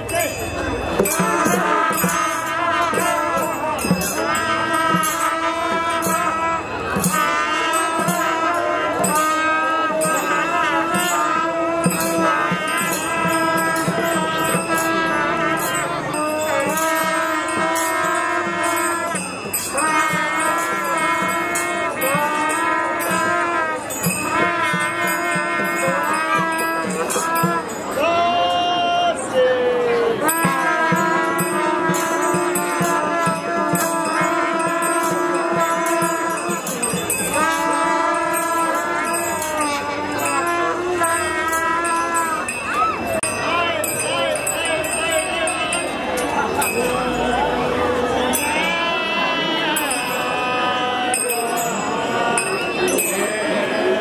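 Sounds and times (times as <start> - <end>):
long wavering melody: 0.0 - 54.0.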